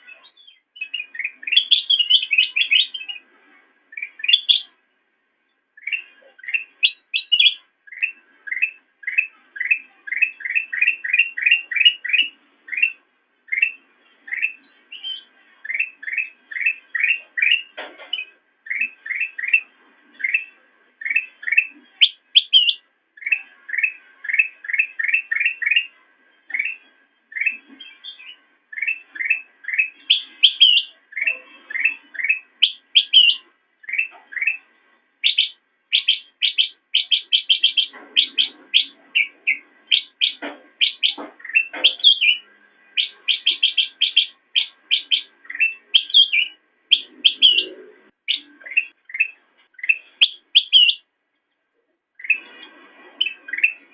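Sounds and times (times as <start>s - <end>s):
bulbul singing chirps: 0.0s - 3.3s, 3.9s - 4.8s, 5.5s - 51.1s, 52.2s - 52.5s, 53.1s - 53.9s.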